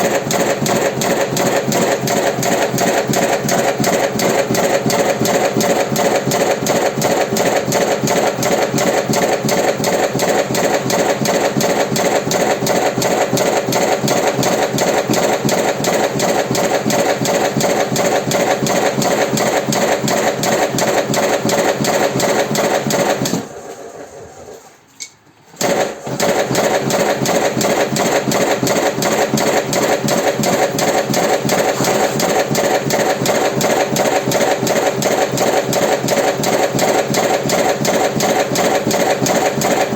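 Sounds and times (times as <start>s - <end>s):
machine clattering rapidly: 0.0s - 24.6s, 25.6s - 39.9s.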